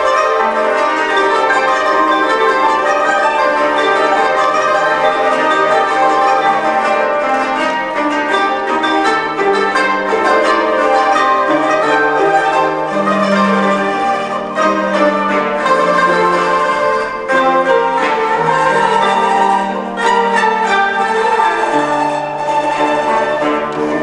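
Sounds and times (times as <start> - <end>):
koto ensemble playing: 0.0 - 24.0.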